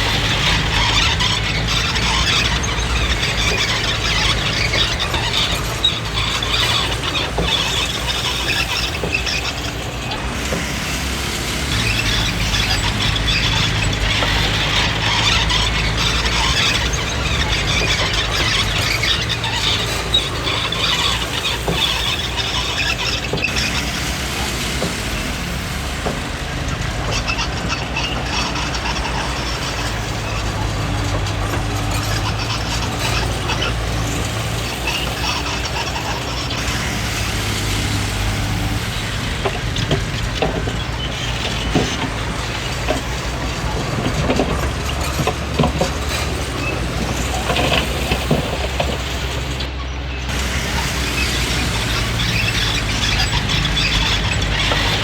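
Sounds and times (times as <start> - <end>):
diesel engine running: 0.0 - 55.0
steel tracks squealing: 0.0 - 55.0.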